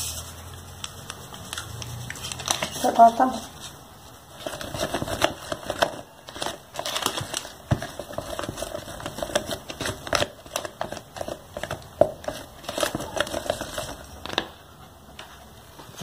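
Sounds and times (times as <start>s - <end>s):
wooden spoon stirring thick mixture: 0.0s - 14.8s.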